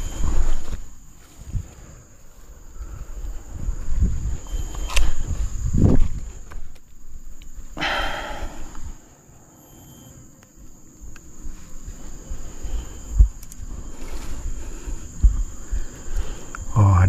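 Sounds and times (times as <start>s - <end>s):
rustle: 0.0s - 9.1s, 11.0s - 16.8s
high-pitched insect drone: 0.0s - 17.0s.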